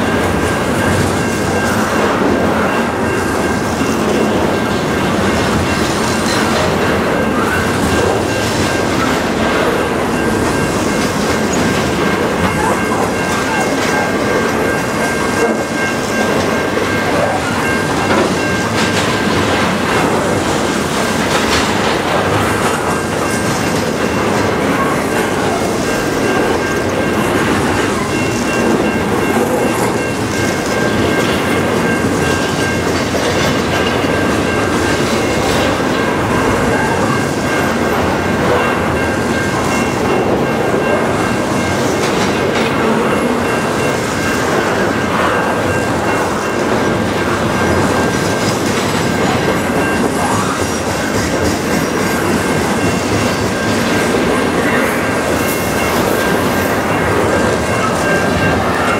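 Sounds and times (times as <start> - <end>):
clickety-clack over rail joints: 0.0 - 58.9
train wheels rumbling on rail: 0.0 - 58.9.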